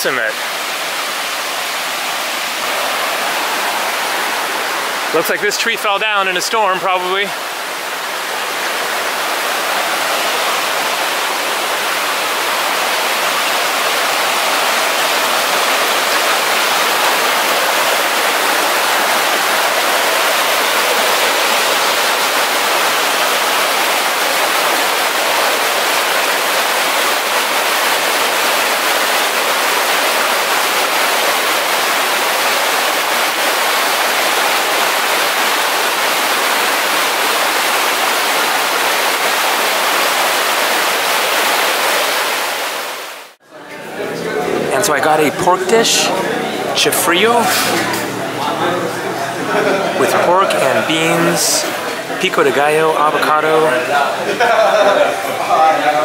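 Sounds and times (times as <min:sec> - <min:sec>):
rushing river water: 0:00.0 - 0:43.4, 0:44.3 - 0:56.0.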